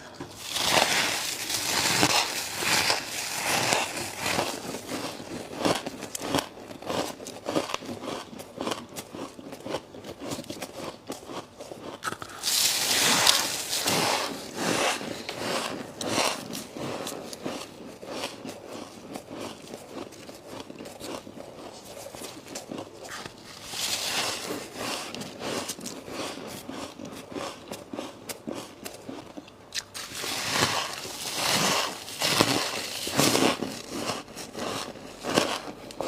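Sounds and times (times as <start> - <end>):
ice being chewed: 0.0 - 36.0.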